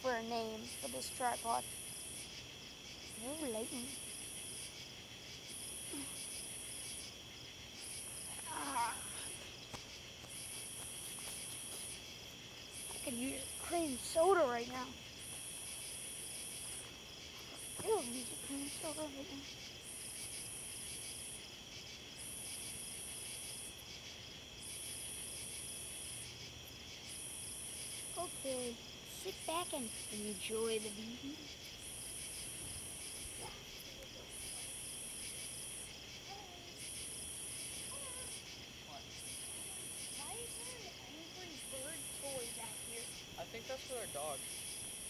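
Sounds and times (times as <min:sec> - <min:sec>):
crickets buzzing: 0:00.0 - 0:45.0
shrill insect trill: 0:00.0 - 0:45.0.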